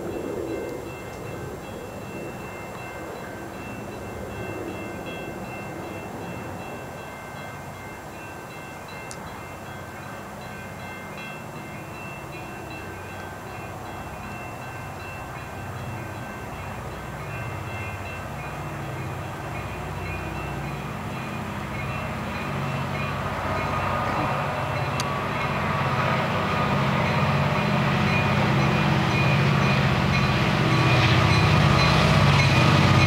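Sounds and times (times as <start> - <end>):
freight train rumble: 0.0 - 33.0.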